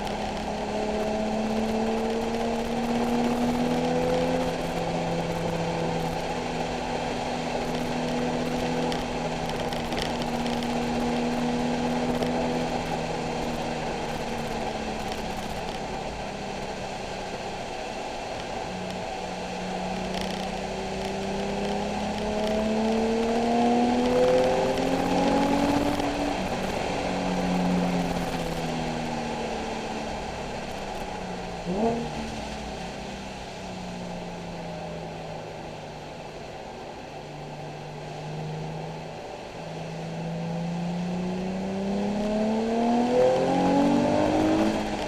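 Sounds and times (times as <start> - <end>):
car engine revving: 0.0 - 36.1, 37.2 - 45.0
road noise hiss: 0.0 - 45.0.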